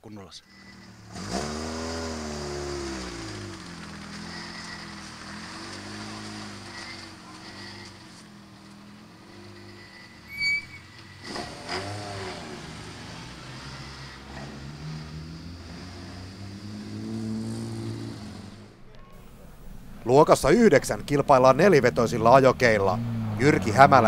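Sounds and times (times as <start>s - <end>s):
car engine idling and revving: 0.4s - 24.0s.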